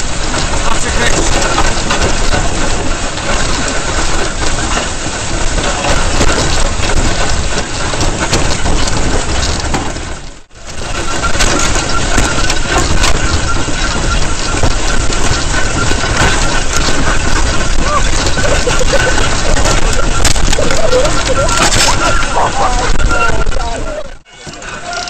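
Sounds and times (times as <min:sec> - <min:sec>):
sled runners rushing over snow: 0:00.0 - 0:25.0
vehicle engine running: 0:00.0 - 0:25.0.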